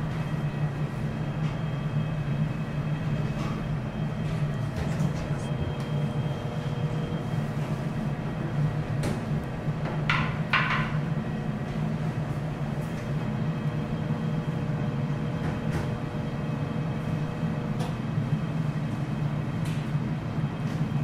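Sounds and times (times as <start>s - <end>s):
low ventilation hum: 0.0s - 21.0s.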